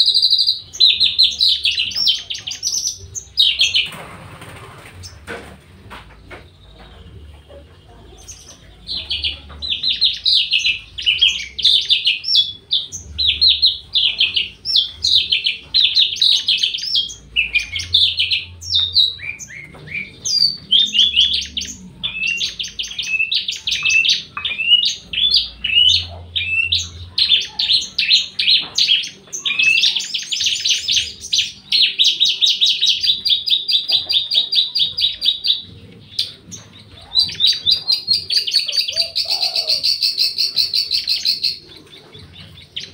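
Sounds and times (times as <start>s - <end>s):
bird chirping and trilling: 0.0s - 5.3s, 6.2s - 42.9s.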